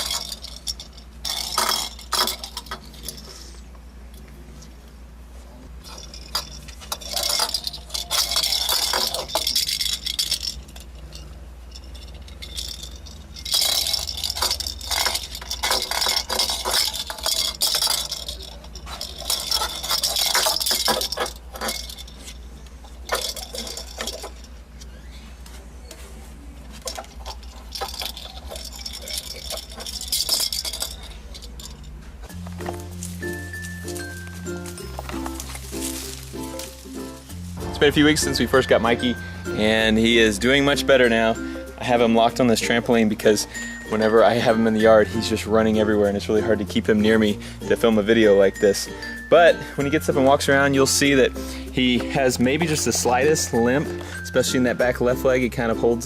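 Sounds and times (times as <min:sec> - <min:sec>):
small hard objects clinking: 0:00.0 - 0:03.6, 0:05.8 - 0:24.9, 0:26.7 - 0:56.0.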